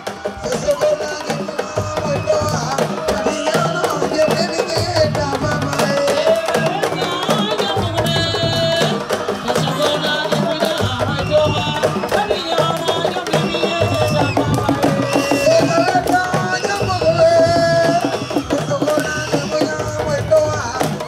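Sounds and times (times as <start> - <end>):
fast drumming: 0.0 - 21.0
person singing: 0.0 - 21.0.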